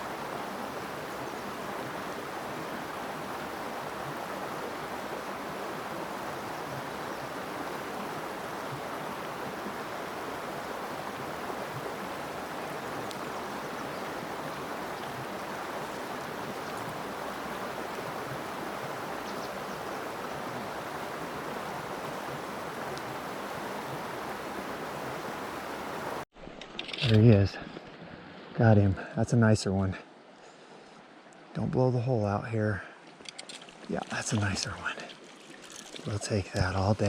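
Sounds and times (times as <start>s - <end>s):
creek flowing over stones: 0.0s - 28.7s, 32.3s - 37.0s.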